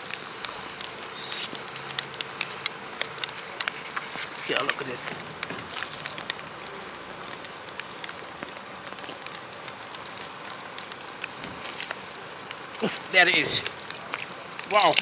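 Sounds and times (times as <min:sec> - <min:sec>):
rain drops tapping: 0:00.0 - 0:15.0.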